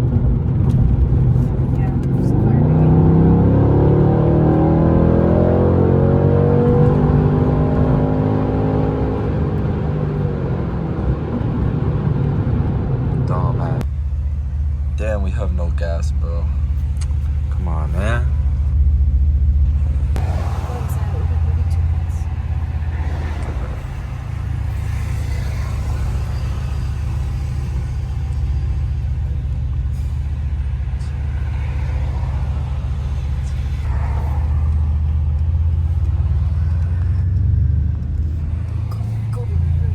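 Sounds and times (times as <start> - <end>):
car engine pulling under throttle: 0.0 - 39.9.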